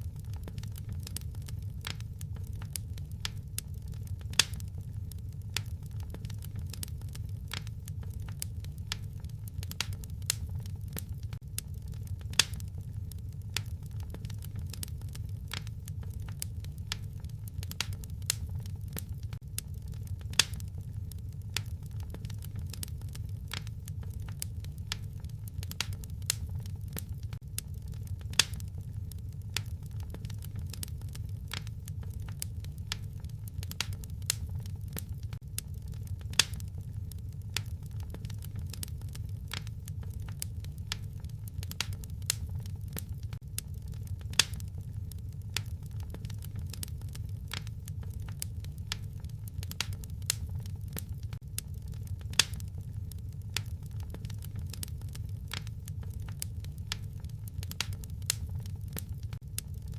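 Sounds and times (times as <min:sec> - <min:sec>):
fire snapping and popping: 0:00.0 - 0:59.9
low rumble of burning fire: 0:00.0 - 0:59.9.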